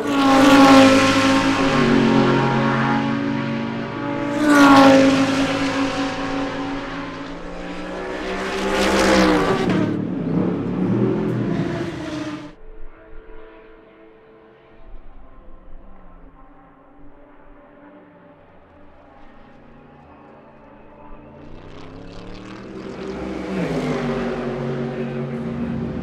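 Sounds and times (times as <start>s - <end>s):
race cars passing at speed: 0.0s - 26.0s.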